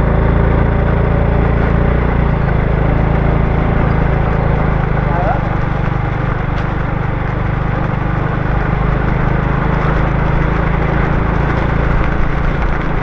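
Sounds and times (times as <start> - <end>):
small motorbike engine running: 0.0 - 13.0
rain hiss on wet road: 2.6 - 13.0.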